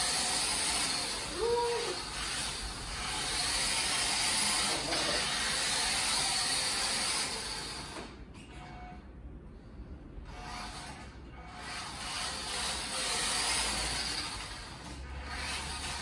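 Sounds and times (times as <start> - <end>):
toy truck motor whirring: 0.0 - 8.2, 10.3 - 16.0.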